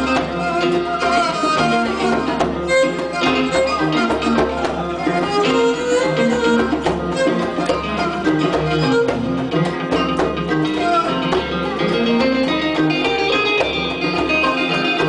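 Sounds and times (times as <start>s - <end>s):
band playing plucked strings: 0.0s - 15.0s.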